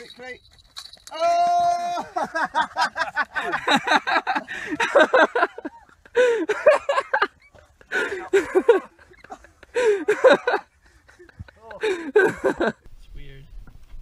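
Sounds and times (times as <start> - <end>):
people laughing and exclaiming: 1.1 - 12.8.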